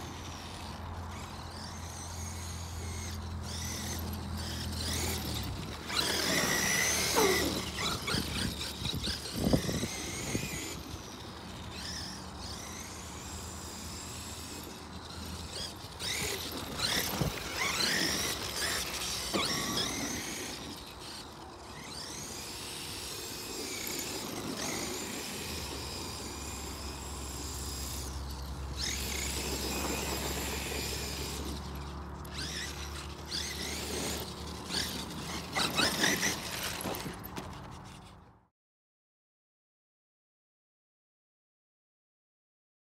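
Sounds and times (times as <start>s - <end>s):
electric motor whining: 0.0s - 38.1s.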